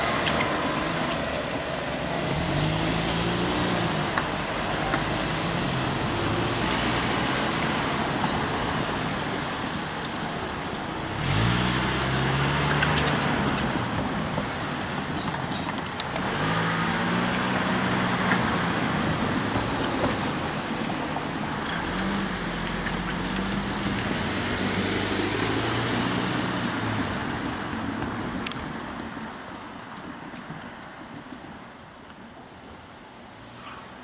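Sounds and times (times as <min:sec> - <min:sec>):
vehicles driving past: 0:00.0 - 0:34.0.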